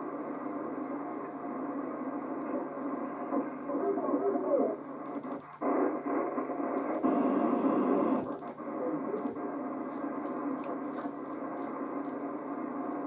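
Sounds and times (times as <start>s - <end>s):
garbled radio signal: 0.0s - 13.0s
radio static: 0.0s - 13.0s.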